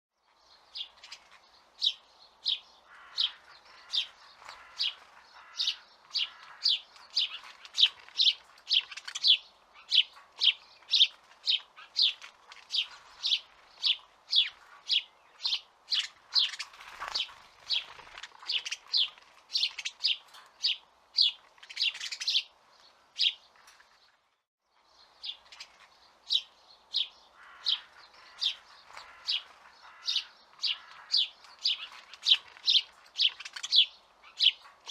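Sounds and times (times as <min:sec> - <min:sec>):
small songbird chirping: 0:00.2 - 0:34.9.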